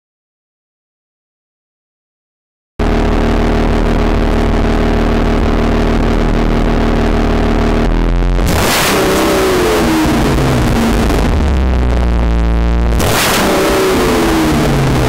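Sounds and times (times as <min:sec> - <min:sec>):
car engine idling: 0:02.8 - 0:15.0
car engine revving: 0:02.8 - 0:15.0.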